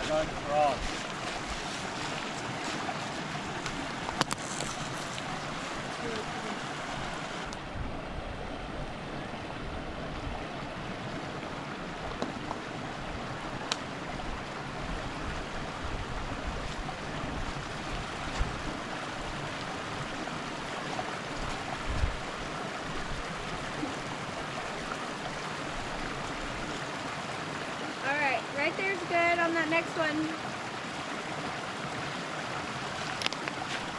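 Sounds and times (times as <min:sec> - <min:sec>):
creek water flowing over rocks: 0:00.0 - 0:33.9.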